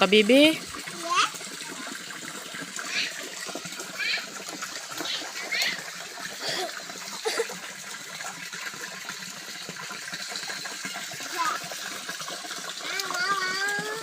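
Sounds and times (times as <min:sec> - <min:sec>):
running splashing water: 0:00.0 - 0:14.0.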